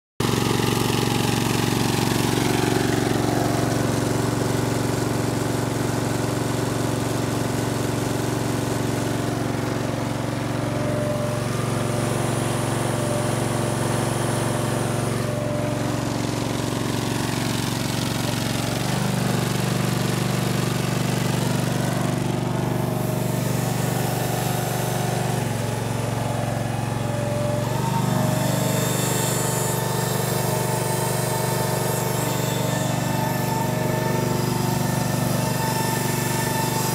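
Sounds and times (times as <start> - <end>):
mower engine running: 0.2 - 36.9.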